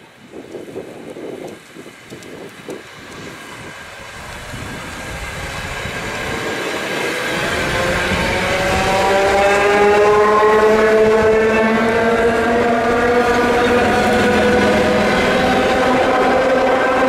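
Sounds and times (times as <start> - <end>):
train rumble and wheel noise: 0.0 - 17.0
train whine climbing in pitch: 1.9 - 17.0.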